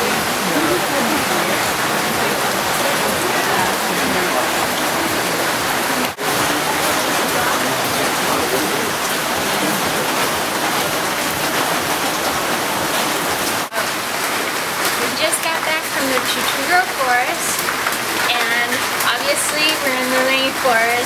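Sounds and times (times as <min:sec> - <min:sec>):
heavy rain on leaves: 0:00.0 - 0:21.0.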